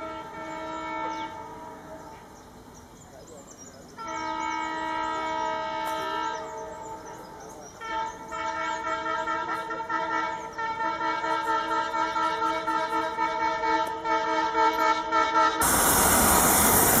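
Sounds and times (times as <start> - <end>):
locomotive air horn blasts: 0.0 - 1.8, 4.0 - 6.8, 7.8 - 17.0.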